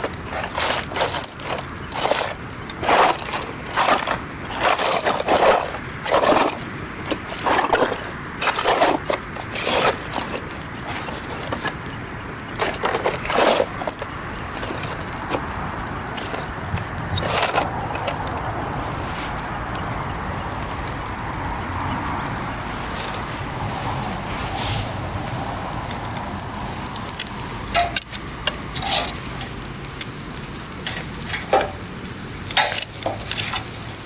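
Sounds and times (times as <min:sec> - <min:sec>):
campfire burning: 0:00.0 - 0:34.0
crunching and scraping: 0:00.0 - 0:34.0.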